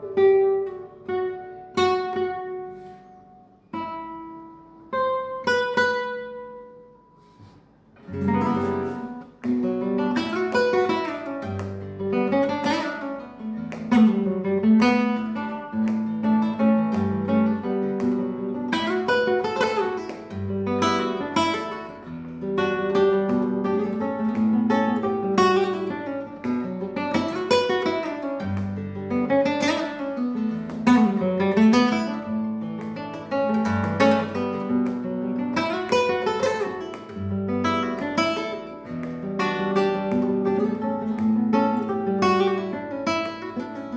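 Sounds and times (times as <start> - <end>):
nylon-string guitar playing: 0.0 - 43.9.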